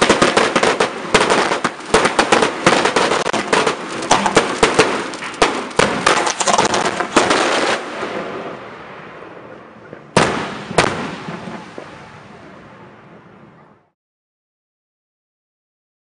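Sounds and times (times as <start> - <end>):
fireworks bangs: 0.0 - 13.3.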